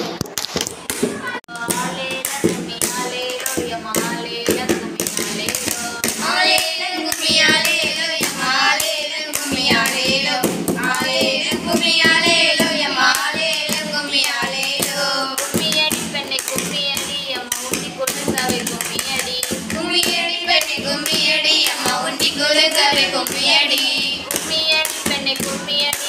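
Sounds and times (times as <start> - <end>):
hands clapping a beat: 0.0 - 26.0
girls singing together: 0.9 - 26.0.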